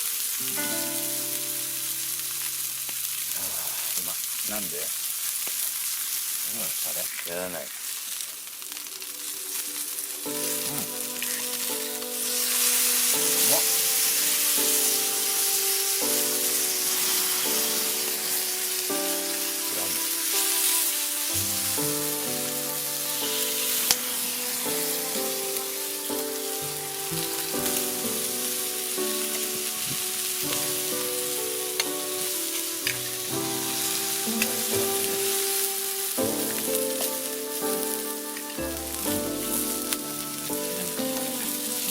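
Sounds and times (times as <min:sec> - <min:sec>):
music with slow sustained chords: 0:00.0 - 0:04.1, 0:08.6 - 0:41.9
food sizzling in a pan: 0:00.0 - 0:41.9.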